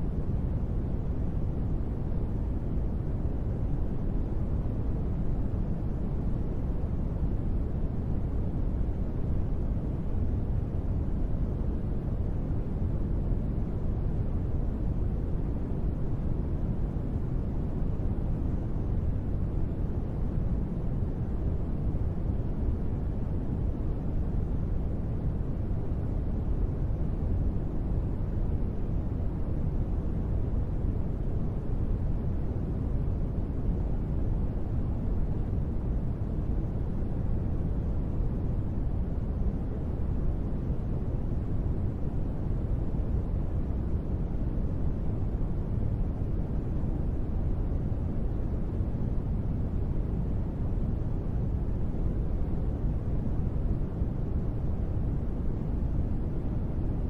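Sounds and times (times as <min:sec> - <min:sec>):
deep white noise: 0:00.0 - 0:57.0.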